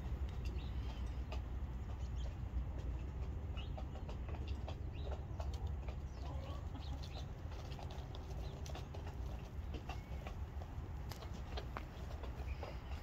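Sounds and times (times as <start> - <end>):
faint bird calls and ticks: 0.0 - 13.0
steady low rumble: 0.0 - 13.0.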